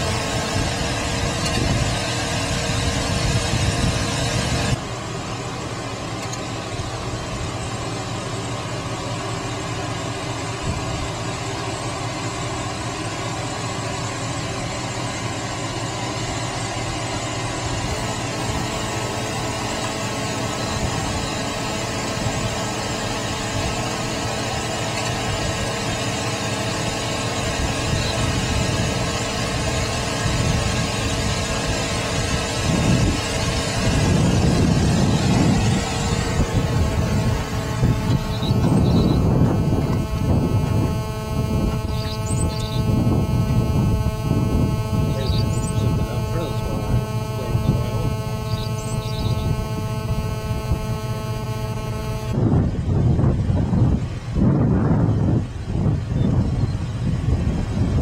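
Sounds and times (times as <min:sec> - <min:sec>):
car engine running: 0:00.0 - 0:58.0
road noise inside car: 0:00.0 - 0:58.0.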